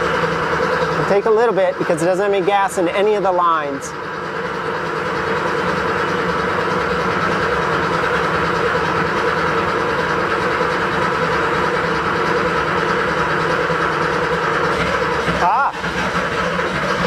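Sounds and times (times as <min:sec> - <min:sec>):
starter motor cranking: 0:00.0 - 0:17.0.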